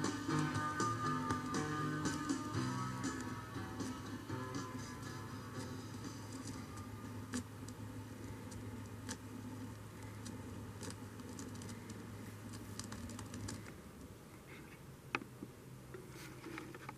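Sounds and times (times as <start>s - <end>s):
low hum: 0.0s - 14.6s
vinyl crackles and clicks: 0.0s - 16.9s
vinyl surface hiss: 0.0s - 16.9s.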